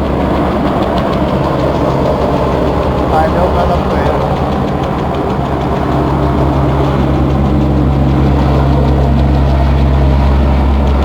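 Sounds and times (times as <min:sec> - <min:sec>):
engine running deep hum: 0:00.0 - 0:11.0.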